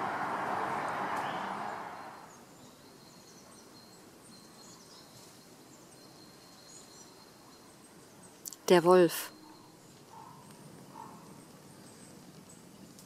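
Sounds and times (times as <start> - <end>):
faint bird chirps: 1.1 - 12.9.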